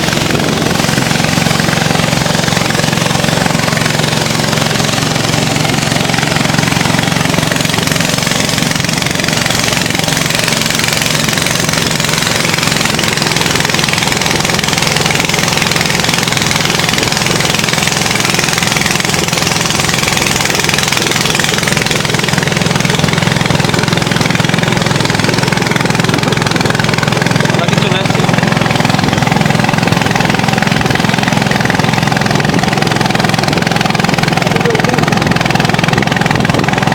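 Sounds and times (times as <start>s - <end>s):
motorboat engine running: 0.0s - 36.9s.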